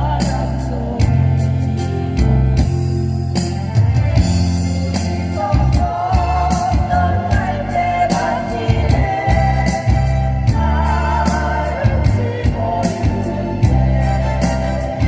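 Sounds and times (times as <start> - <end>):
vocal ensemble singing ballad: 0.0 - 2.9, 4.2 - 15.0
band accompaniment: 0.0 - 15.0
steady bass: 0.0 - 15.0.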